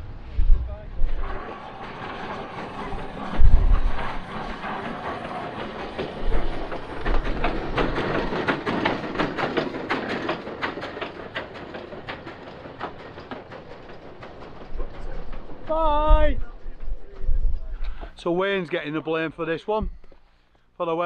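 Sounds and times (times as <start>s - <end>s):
steam train knocking and clanking: 0.9s - 20.2s.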